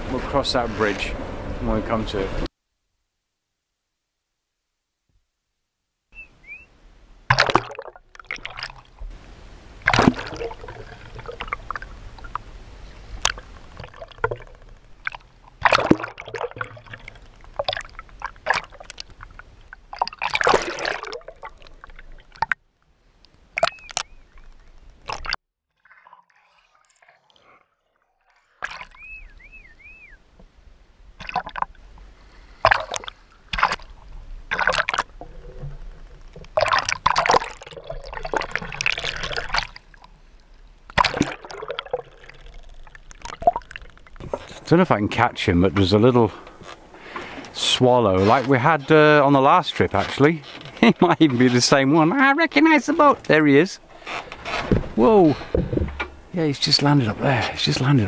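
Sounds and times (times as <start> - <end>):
sea water splashing: 7.2 - 58.0.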